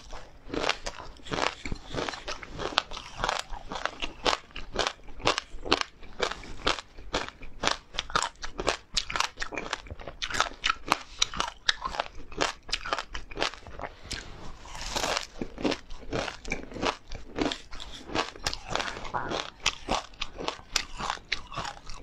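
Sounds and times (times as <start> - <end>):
crunchy biting and chewing: 0.0 - 22.0.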